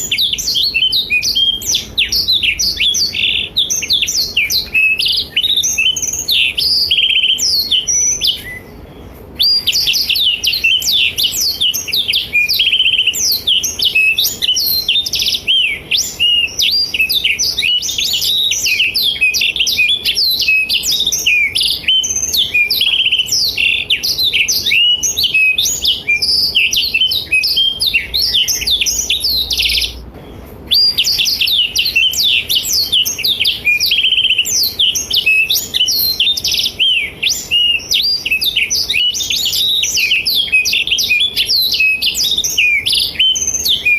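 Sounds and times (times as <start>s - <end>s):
canary singing chirps and trills: 0.0s - 43.9s.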